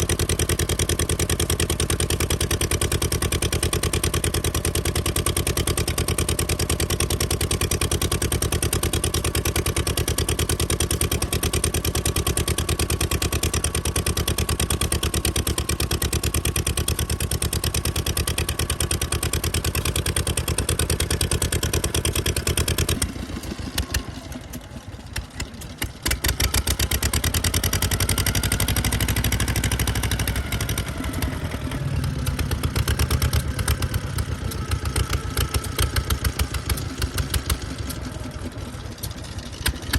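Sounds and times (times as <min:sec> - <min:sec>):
kerosene engine running: 0:00.0 - 0:39.9.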